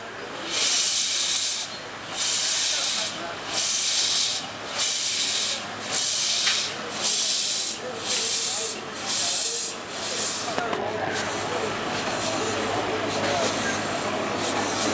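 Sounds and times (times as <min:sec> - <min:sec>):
steam locomotive hissing steam bursts: 0:00.4 - 0:14.9.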